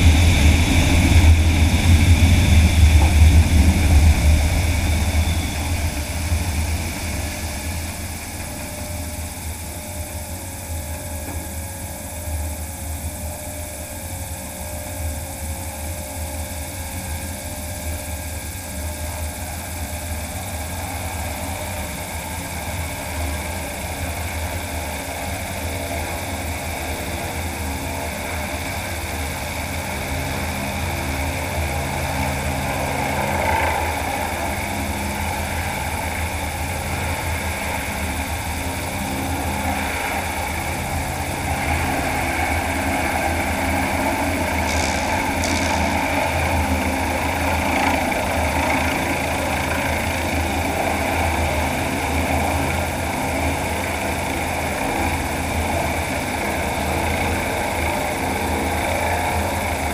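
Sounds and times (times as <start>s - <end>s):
electric propeller running: 0.0s - 59.9s.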